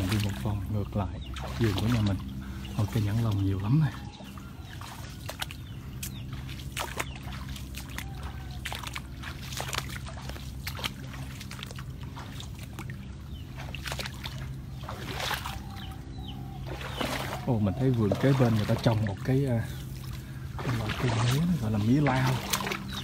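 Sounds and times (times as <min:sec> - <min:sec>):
floodwater splashing: 0:00.0 - 0:23.0
low hum: 0:00.0 - 0:23.0.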